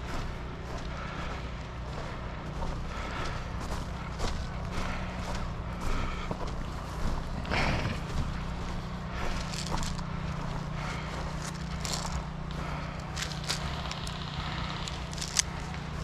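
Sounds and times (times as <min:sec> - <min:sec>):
footsteps through brush: 0:00.0 - 0:16.0
steady low hum: 0:00.0 - 0:16.0.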